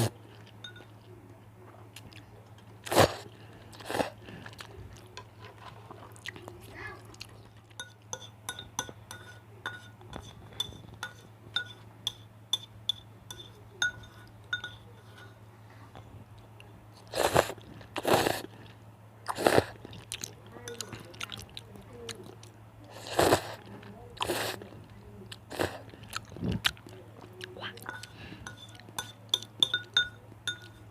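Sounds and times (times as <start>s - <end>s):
loud bursts of eating noise: 0.0s - 15.6s, 16.2s - 30.9s
soft chewing: 0.0s - 30.9s.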